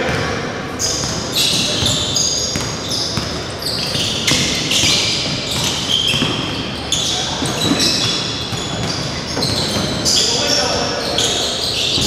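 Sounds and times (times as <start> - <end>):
basketball dribbling: 0.0 - 12.0
sneakers squeaking: 0.0 - 12.0.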